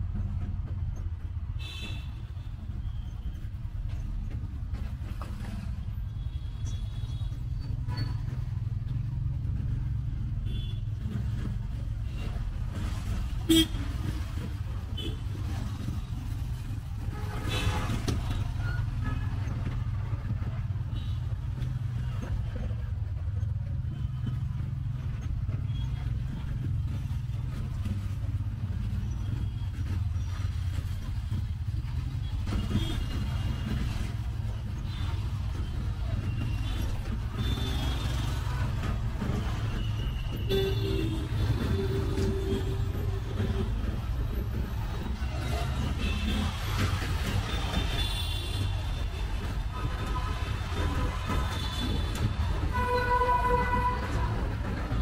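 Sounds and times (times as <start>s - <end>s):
rickshaw engine rumble: 0.0s - 55.0s
road noise: 0.0s - 55.0s.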